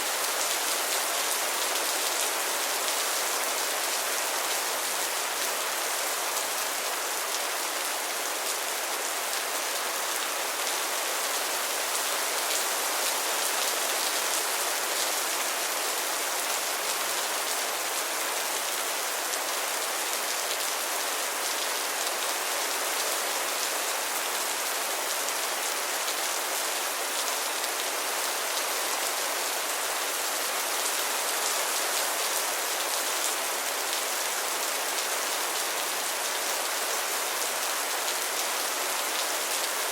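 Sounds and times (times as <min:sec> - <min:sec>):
heavy rain on hard surfaces: 0:00.0 - 0:39.9.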